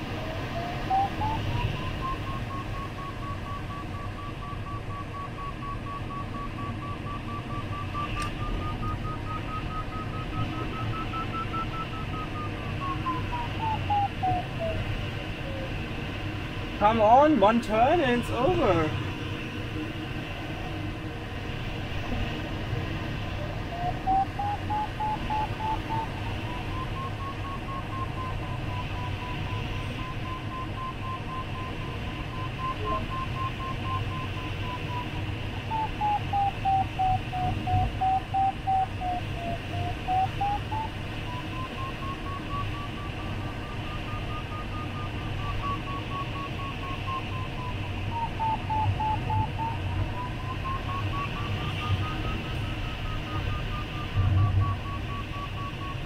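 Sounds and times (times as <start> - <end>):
variometer beeping quickly: 0.0 - 14.9, 23.8 - 56.0.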